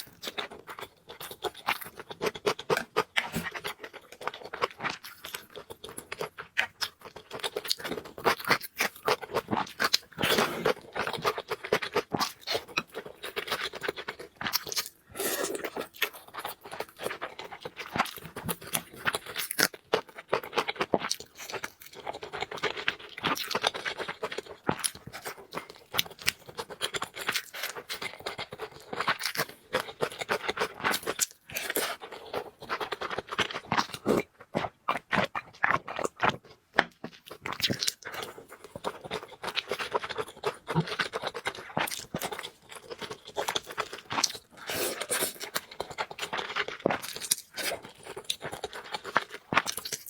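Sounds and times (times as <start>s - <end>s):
person chewing and crunching food: 0.0s - 50.0s.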